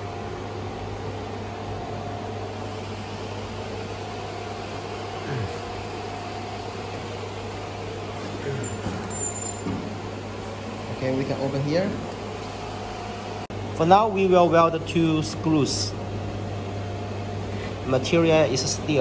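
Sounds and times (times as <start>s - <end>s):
laser welder and chiller hum: 0.0s - 19.0s.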